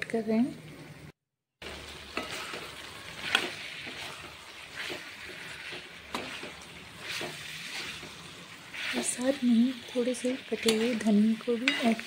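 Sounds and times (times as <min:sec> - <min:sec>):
vegetables frying in oil: 0:01.6 - 0:12.0
steel spoon scraping pan: 0:02.0 - 0:12.0.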